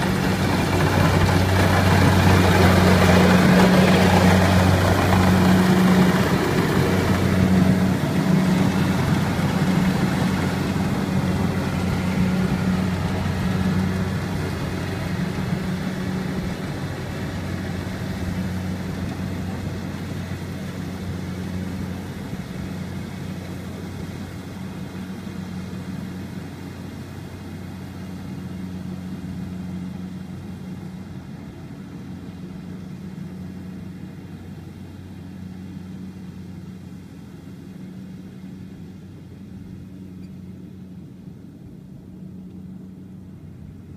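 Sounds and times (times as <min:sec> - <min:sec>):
combine harvester diesel engine: 0:00.0 - 0:43.9.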